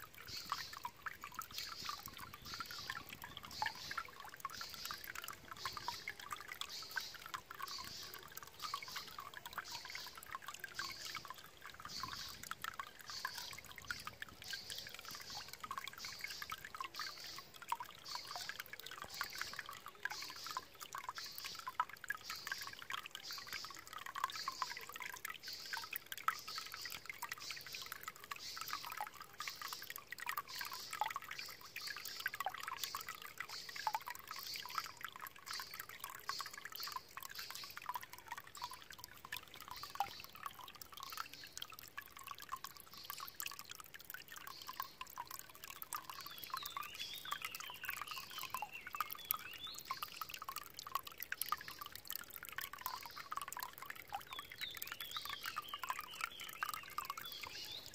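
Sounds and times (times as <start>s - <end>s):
water bubbling and trickling: 0.0s - 57.9s.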